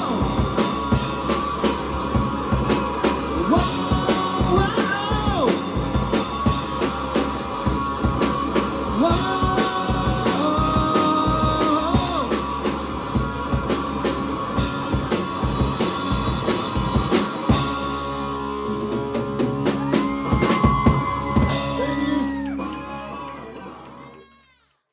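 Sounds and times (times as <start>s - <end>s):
drum and cymbal hits: 0.0s - 22.2s
drum kit beat: 0.0s - 22.3s
electric guitar bending notes: 0.0s - 23.5s
bass guitar: 0.0s - 24.5s.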